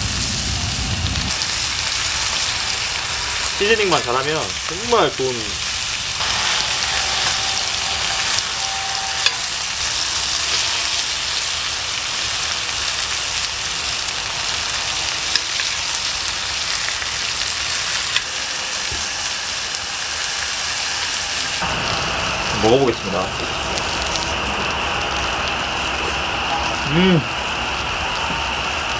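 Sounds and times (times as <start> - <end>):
steak sizzling: 0.0 - 28.9.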